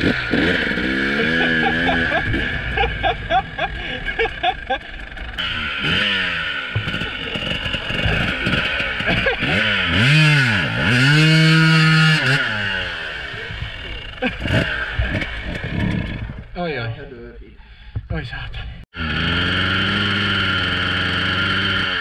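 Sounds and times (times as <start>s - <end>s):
dirt bike engine revving: 0.0s - 16.6s, 19.0s - 22.0s.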